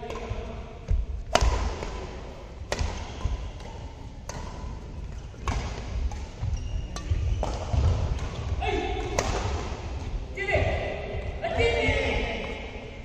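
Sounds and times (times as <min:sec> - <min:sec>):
rackets hitting shuttlecock: 0:00.0 - 0:10.8.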